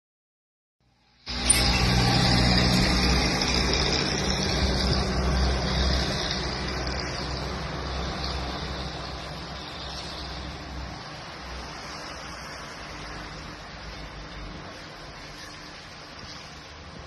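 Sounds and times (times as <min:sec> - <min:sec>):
low vehicle engine hum: 0:00.9 - 0:17.0.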